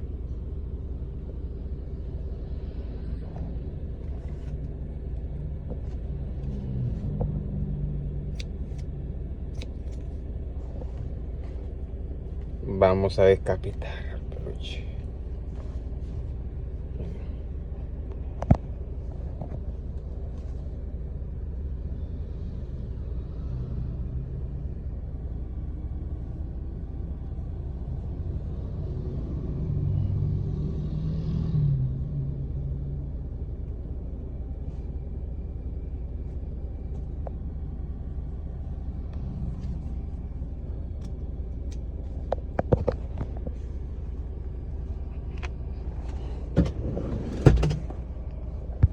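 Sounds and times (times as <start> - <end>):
car cabin rumble: 0.0 - 28.9, 32.5 - 48.9.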